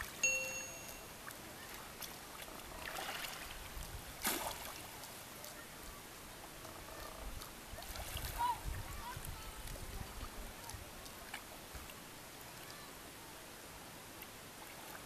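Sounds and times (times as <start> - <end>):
water lapping faintly: 0.0 - 15.0.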